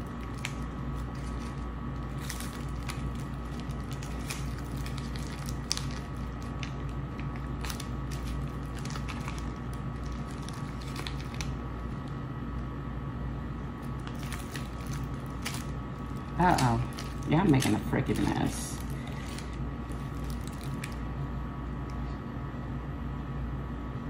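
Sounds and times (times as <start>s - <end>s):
plastic bag crinkling: 0.0s - 12.2s, 13.8s - 21.2s
steady low hum: 0.0s - 24.0s.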